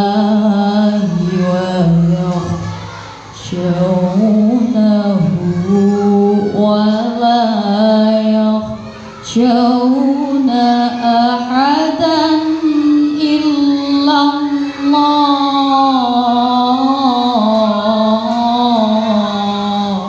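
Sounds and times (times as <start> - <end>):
woman reciting melodically: 0.0 - 20.0.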